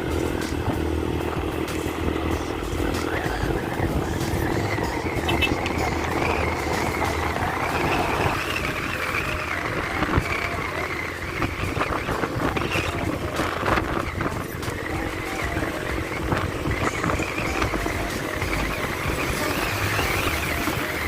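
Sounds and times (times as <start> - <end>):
motorcycle engine: 0.0 - 21.0
passing traffic: 0.0 - 21.0
wind and road noise: 0.0 - 21.0.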